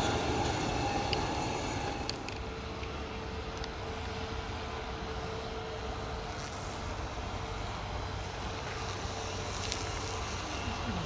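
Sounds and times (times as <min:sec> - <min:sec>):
faint constant tone: 0:00.0 - 0:11.0
jet engines taxiing: 0:00.0 - 0:11.0.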